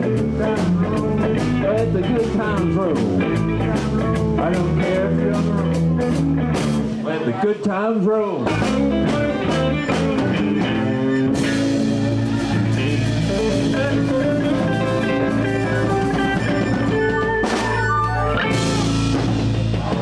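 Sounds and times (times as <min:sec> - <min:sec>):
instrumental blues band: 0:00.0 - 0:07.2, 0:08.4 - 0:20.0.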